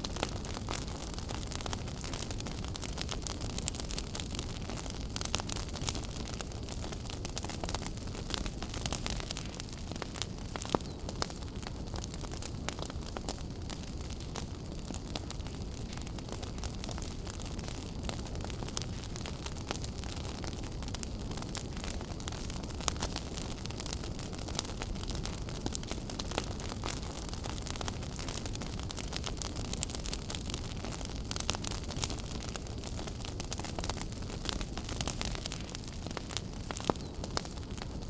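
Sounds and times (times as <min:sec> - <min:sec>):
fire crackling and popping: 0:00.0 - 0:38.0
fire rumbling and hissing: 0:00.0 - 0:38.0.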